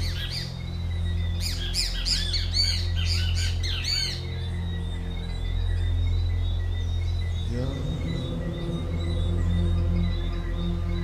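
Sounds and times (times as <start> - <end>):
ambient music drone: 0.0 - 11.0
birds chirping: 0.0 - 11.0.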